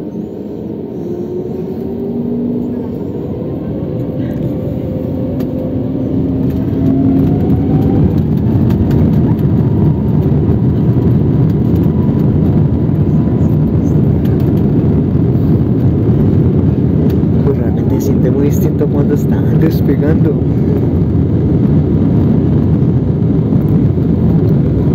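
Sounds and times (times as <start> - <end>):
jet engines spooling up: 0.0 - 24.9
plane rolling down runway: 0.0 - 24.9.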